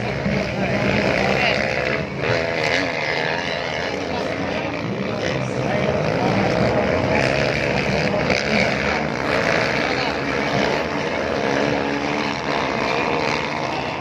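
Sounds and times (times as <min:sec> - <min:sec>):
motocross bikes racing: 0:00.0 - 0:14.0.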